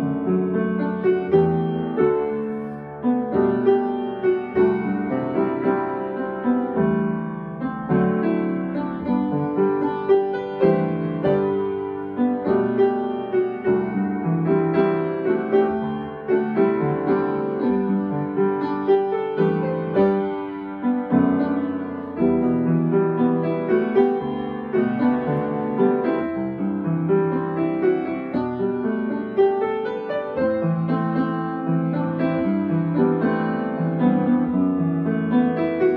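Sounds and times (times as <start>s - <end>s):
piano music: 0.0s - 35.9s.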